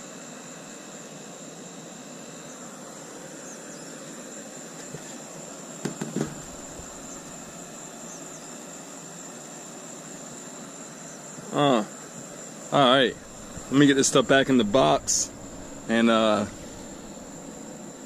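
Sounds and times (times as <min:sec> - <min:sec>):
high-pitched insect trill: 0:00.0 - 0:18.0
outdoor background hiss: 0:00.0 - 0:18.0.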